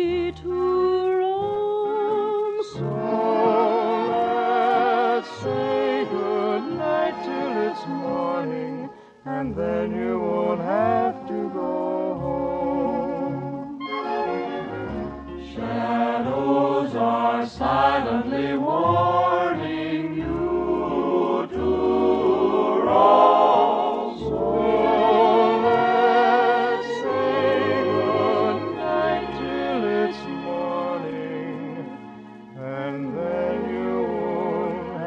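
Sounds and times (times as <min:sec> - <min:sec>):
orchestral accompaniment: 0:02.0 - 0:08.8, 0:09.6 - 0:35.0
choir singing: 0:02.6 - 0:35.0.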